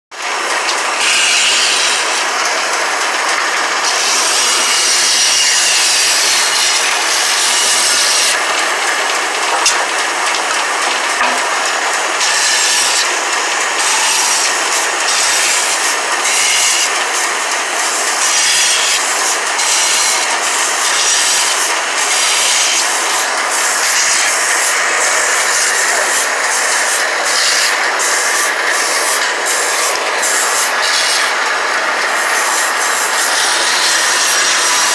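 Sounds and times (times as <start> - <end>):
bandsaw cutting wood: 0.1 - 34.9.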